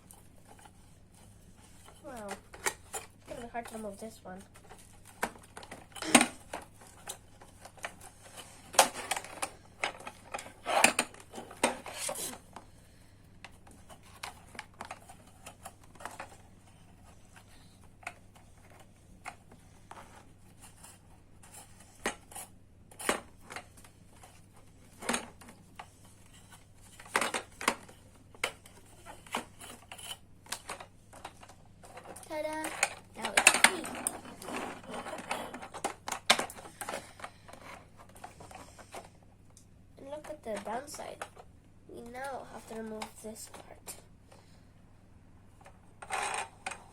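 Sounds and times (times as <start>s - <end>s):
plastic toy clicks and scrapes: 0.1s - 12.6s, 13.7s - 39.1s, 45.6s - 46.9s.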